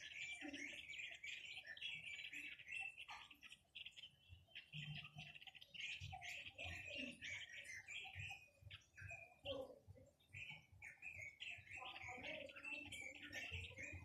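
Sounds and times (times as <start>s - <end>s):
songbird chattering twitter: 0.0s - 14.0s.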